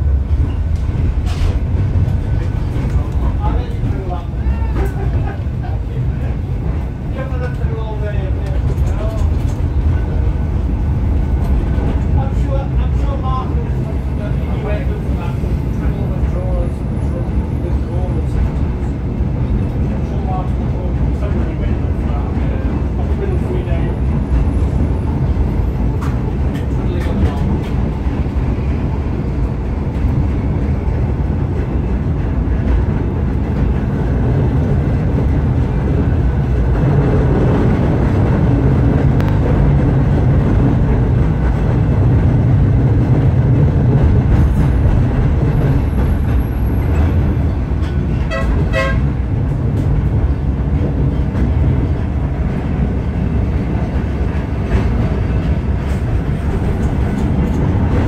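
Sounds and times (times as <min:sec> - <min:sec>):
tram motors and wheels rumbling: 0:00.0 - 0:58.0.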